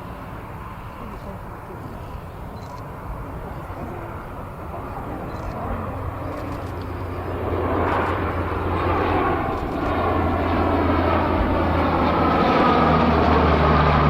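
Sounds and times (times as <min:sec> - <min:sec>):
engine whine: 0:00.0 - 0:14.0
propeller aircraft flying by: 0:00.0 - 0:14.0.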